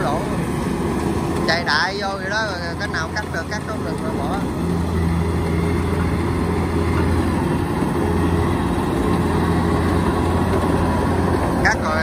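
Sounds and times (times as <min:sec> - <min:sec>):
combine harvester engine droning: 0:00.0 - 0:12.0.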